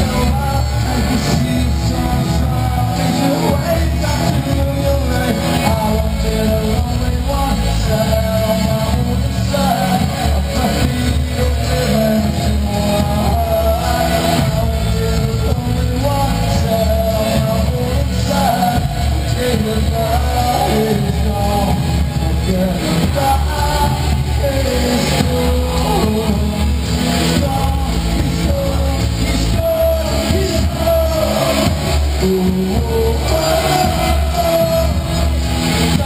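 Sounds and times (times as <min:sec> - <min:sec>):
live rock band playing: 0:00.0 - 0:36.0
person singing: 0:00.0 - 0:36.0.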